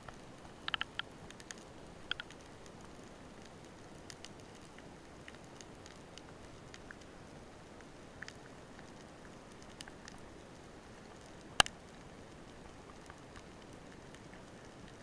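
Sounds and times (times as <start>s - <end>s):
underwater clicks and crackles: 0.0s - 15.0s.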